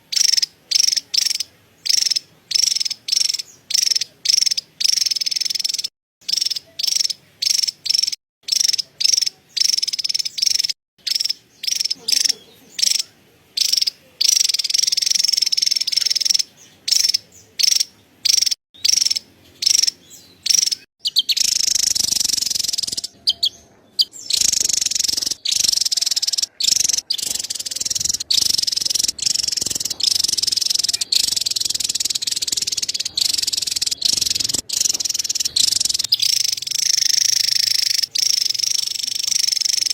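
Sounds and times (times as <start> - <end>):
bird high-pitched chattering call: 0.0 - 39.9.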